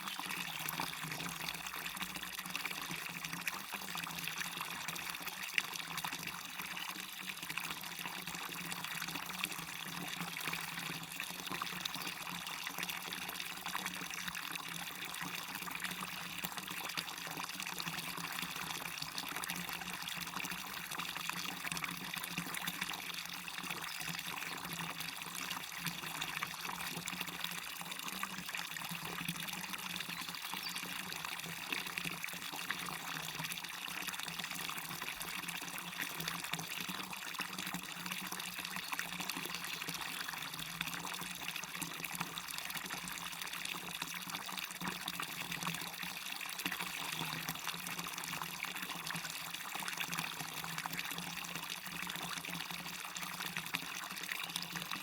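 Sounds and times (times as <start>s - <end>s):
small waterfall and stream: 0.0s - 55.0s.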